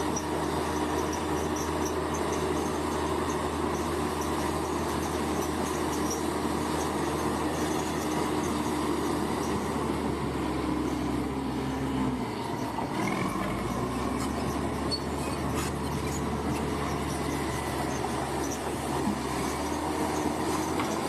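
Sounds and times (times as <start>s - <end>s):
bulldozer diesel engine drone: 0.0s - 21.0s.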